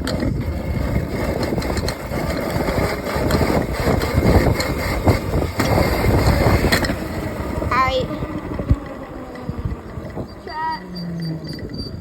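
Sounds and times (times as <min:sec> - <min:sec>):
electric dirt bike rolling: 0:00.0 - 0:12.0
wind buffeting microphone: 0:00.0 - 0:12.0.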